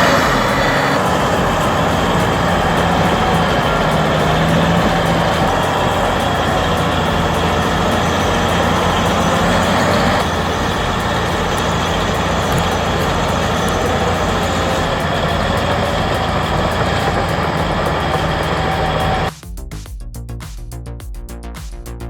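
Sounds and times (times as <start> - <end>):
bulldozer diesel engine running: 0.0 - 19.3.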